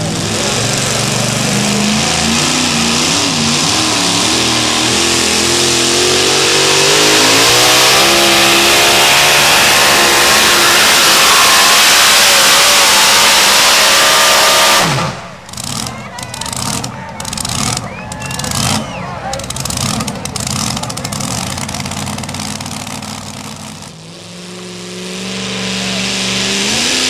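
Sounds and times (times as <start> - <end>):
supercharged truck engine full throttle: 0.0 - 27.0.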